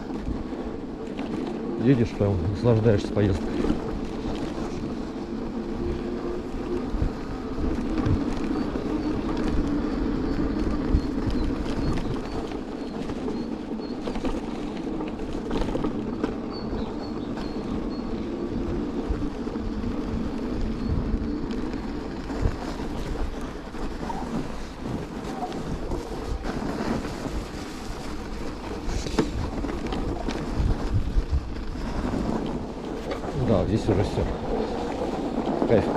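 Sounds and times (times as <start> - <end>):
tyre rumble and road noise: 0.0 - 35.9
wind buffeting microphone: 0.0 - 35.9.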